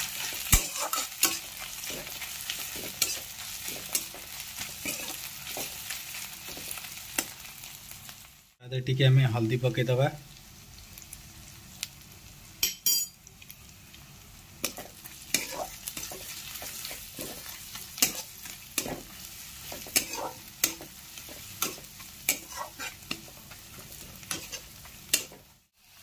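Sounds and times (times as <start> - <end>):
onions sizzling in oil: 0.0 - 26.0.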